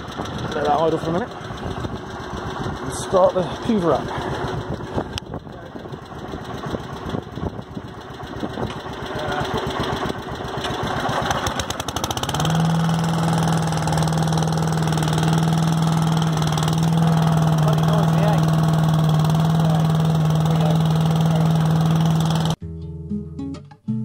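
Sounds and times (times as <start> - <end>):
garden tractor engine idling: 0.0 - 22.6
small petrol engine with blower: 0.0 - 22.6.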